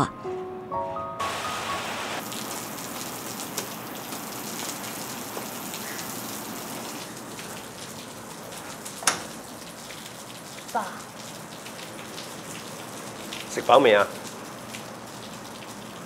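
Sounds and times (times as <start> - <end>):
steady rain falling: 1.2 - 16.0.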